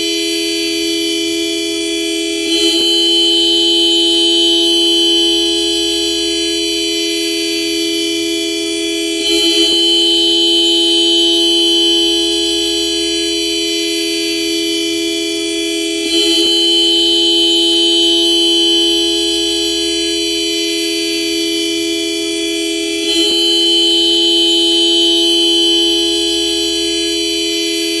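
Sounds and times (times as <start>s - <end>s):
car horn steady tone: 0.0s - 28.0s.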